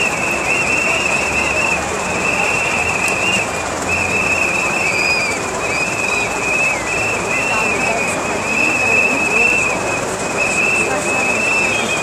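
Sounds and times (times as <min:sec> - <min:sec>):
crowd noise: 0:00.0 - 0:12.0
high whistle-like tone: 0:00.0 - 0:12.0.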